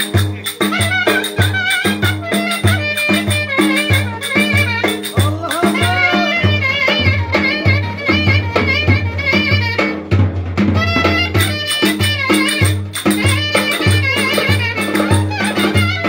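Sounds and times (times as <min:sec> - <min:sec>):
clarinet playing fast dance tune: 0:00.0 - 0:16.0
large drum steady beat: 0:00.0 - 0:16.0.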